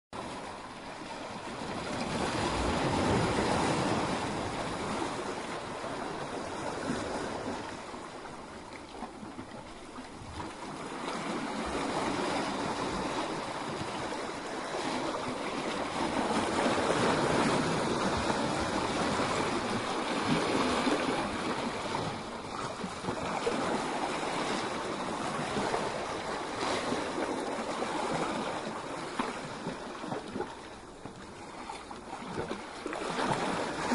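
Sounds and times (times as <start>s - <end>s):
waves breaking on rocky shore: 0.2s - 33.9s.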